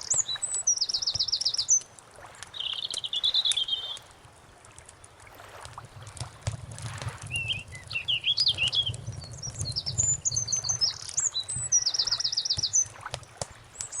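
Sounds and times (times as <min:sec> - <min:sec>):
songbird singing: 0:00.0 - 0:04.2, 0:06.3 - 0:14.0
soft ticks: 0:00.0 - 0:14.0.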